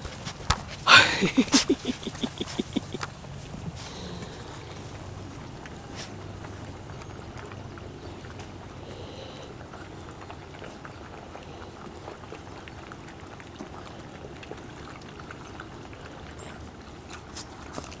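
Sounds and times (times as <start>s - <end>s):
puppies crunching dry kibble: 0.0s - 18.0s.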